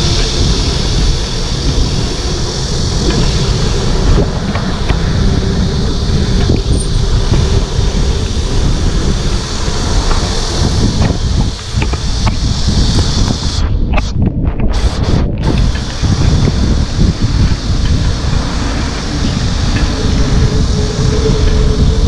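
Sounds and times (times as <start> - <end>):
tyres hissing on road: 0.0 - 14.2, 14.8 - 22.0
wind rushing over microphone: 0.0 - 22.0.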